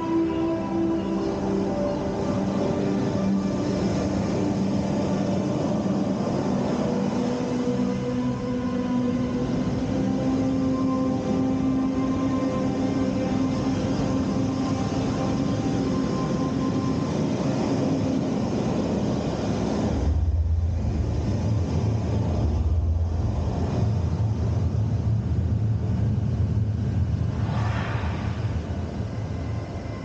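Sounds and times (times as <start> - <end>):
deep heavy rumble: 0.0 - 30.0
loud hum with held tones: 0.0 - 30.0.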